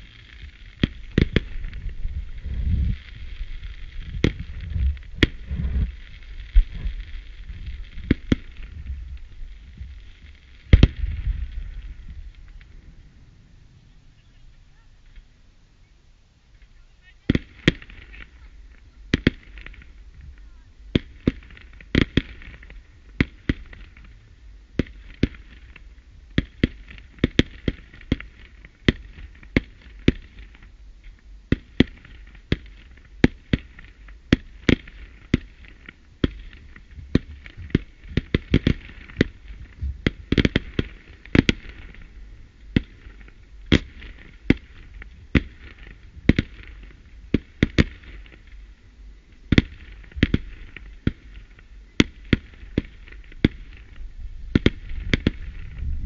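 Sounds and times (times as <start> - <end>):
fireworks banging: 0.0 - 15.4, 16.5 - 56.0.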